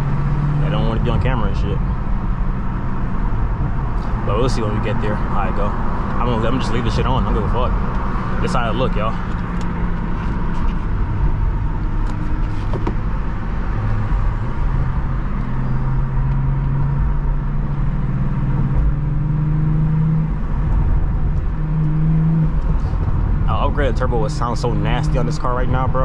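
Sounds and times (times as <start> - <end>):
car engine from inside cabin: 0.0 - 26.0.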